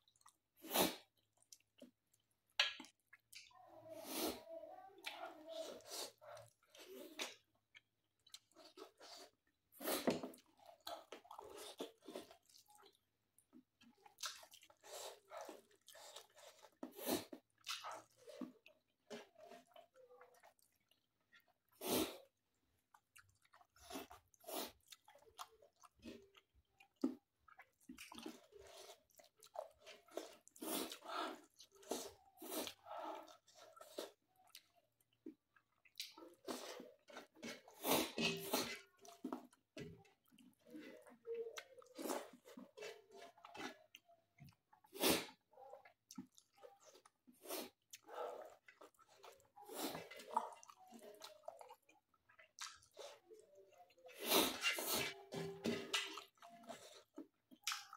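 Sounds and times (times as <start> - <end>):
person chewing with wet smacks: 0.0 - 3.6, 5.0 - 57.9.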